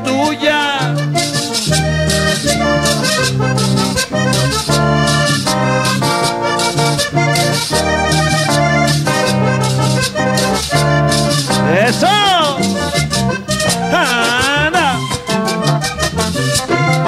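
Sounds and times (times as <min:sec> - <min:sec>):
button accordion melody: 0:00.0 - 0:17.0
electric bass: 0:00.0 - 0:17.0
steady percussion rhythm: 0:00.0 - 0:17.0.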